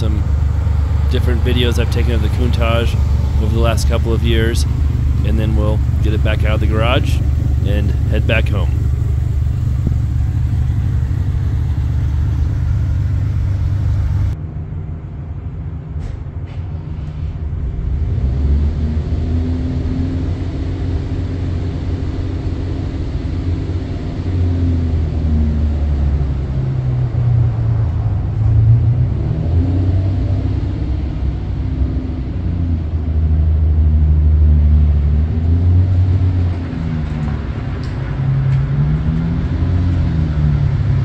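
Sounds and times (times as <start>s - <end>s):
car engine idling: 0.0s - 14.4s, 19.1s - 41.0s.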